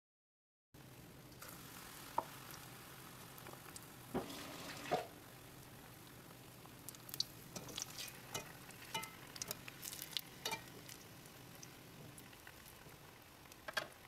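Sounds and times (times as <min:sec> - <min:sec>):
oil sizzling: 0:00.8 - 0:14.0.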